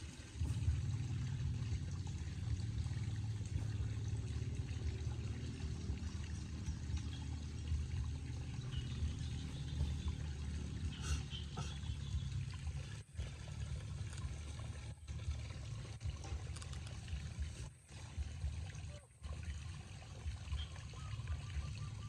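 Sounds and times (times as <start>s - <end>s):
steady low rumble: 0.0s - 20.4s
water dripping into basin: 0.0s - 22.0s.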